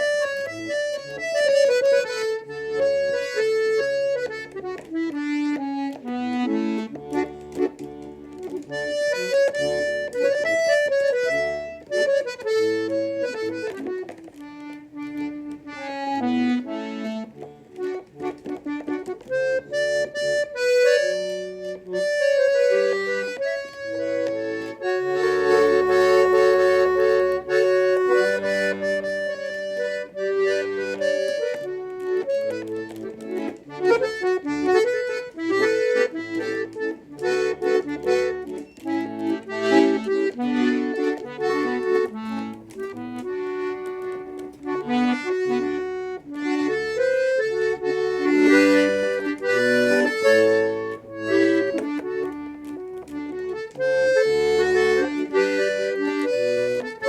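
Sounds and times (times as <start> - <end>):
accordion playing: 0.0 - 57.0.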